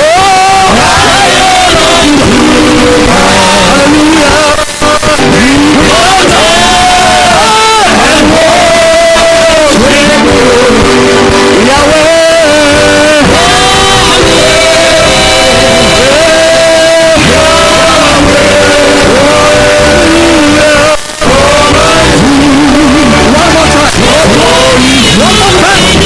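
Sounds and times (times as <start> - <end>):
musical accompaniment: 0.0 - 26.0
person singing worship song: 0.0 - 26.0.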